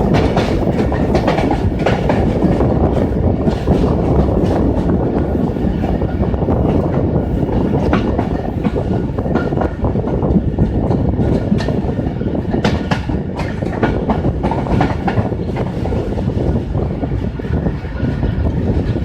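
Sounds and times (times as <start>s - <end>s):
wheels clacking over track: 0.0s - 16.5s
train rumbling past: 0.0s - 19.0s.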